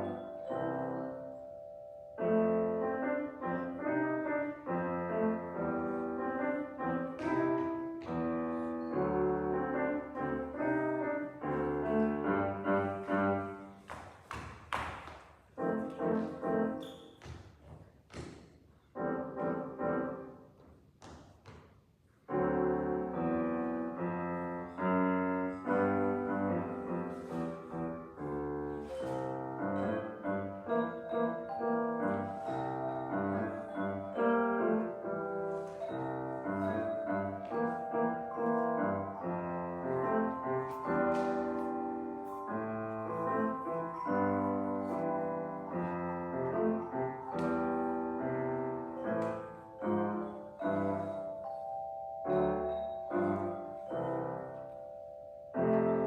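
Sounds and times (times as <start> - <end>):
tone chimes and piano playing: 0.0 - 13.7, 22.3 - 56.0.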